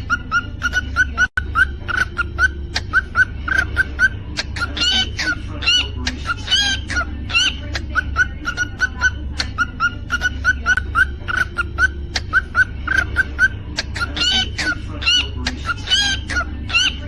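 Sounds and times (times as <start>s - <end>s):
cockatiel chirping: 0.0s - 17.0s.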